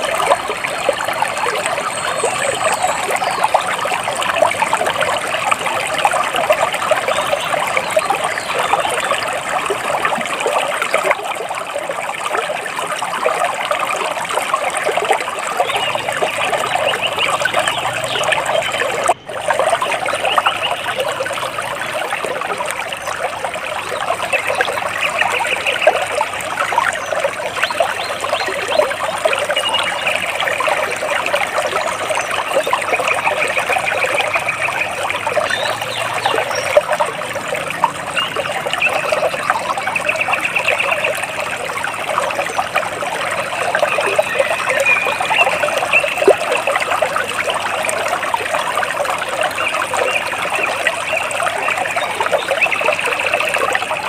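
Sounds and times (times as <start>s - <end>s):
water trickling over rocks: 0.0s - 54.0s.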